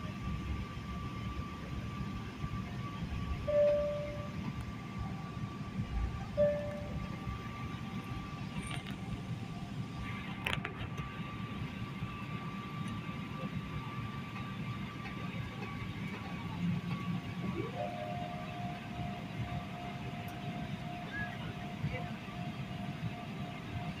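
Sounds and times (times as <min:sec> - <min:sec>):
airliner cabin rumble: 0:00.0 - 0:24.0
faint steady whine: 0:00.0 - 0:24.0.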